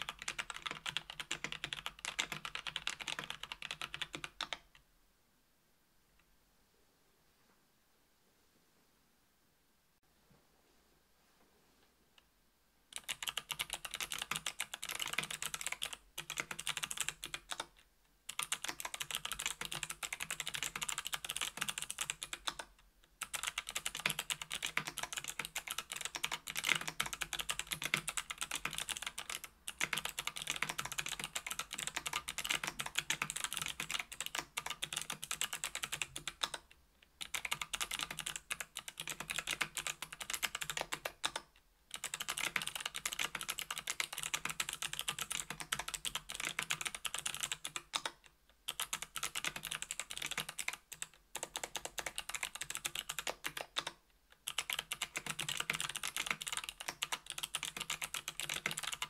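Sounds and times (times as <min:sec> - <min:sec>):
clicky keyboard typing: 0:00.0 - 0:04.8, 0:12.9 - 0:59.0.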